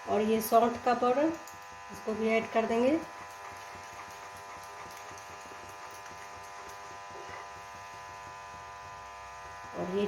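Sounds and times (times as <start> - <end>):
electrical buzzing hum: 0.0 - 10.0.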